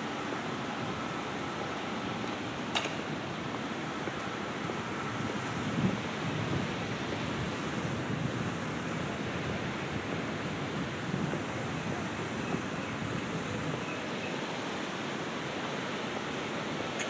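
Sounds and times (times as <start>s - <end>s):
rushing noise with low rumble: 0.8s - 17.0s.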